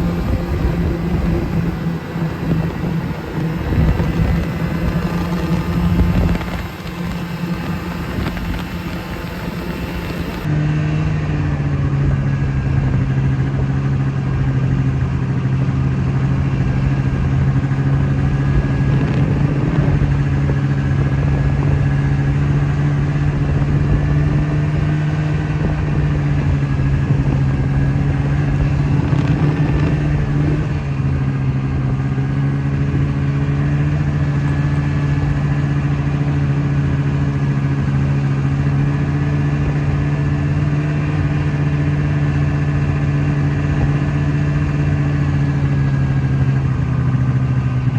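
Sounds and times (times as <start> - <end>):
vehicle engine droning: 0.0 - 47.9.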